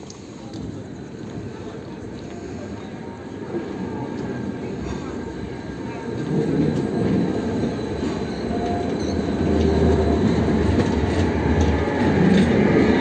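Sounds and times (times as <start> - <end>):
tram rumbling past: 0.0 - 13.0.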